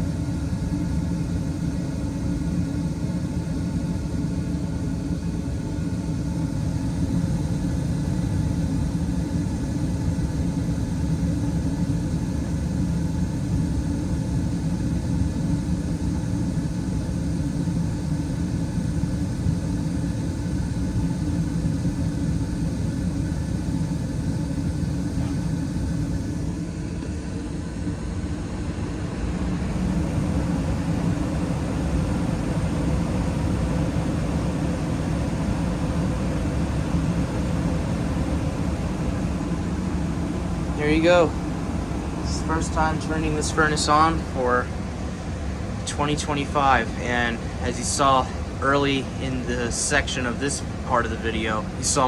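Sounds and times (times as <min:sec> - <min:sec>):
gas furnace running: 0:00.0 - 0:52.0.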